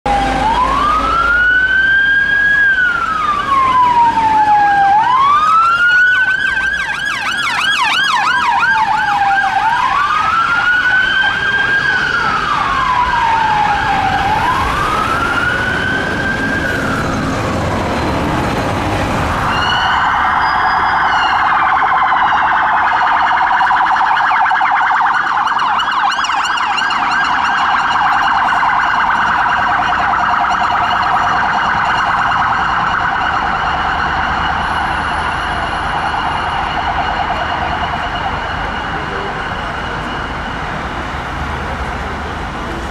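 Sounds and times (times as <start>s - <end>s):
police siren wailing: 0.0s - 42.9s
second siren: 0.1s - 41.5s
siren fast yelp: 0.3s - 17.4s, 19.3s - 40.6s.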